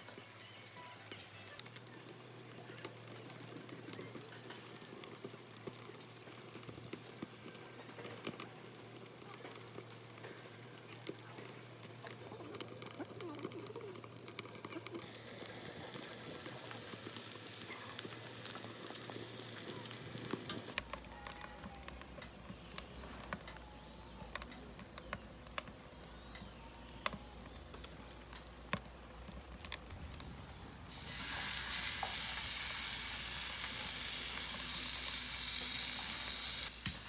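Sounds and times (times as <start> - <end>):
wood fire crackling in stove: 0.0 - 37.0.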